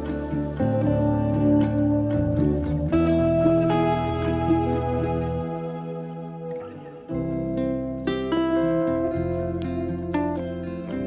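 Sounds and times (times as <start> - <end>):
soft acoustic guitar chords: 0.0 - 11.0.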